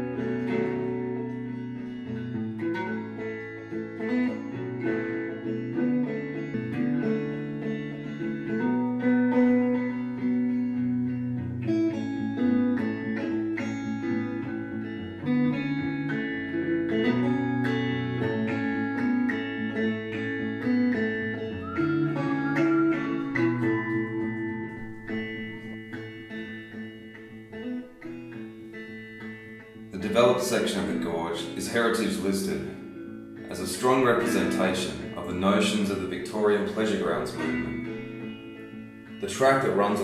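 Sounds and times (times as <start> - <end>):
plucked guitar: 0.0 - 40.0.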